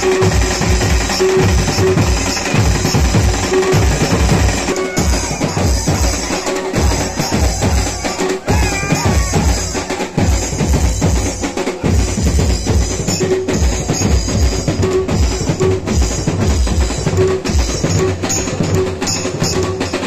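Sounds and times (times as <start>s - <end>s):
drum-heavy music with bass drum: 0.0s - 20.0s.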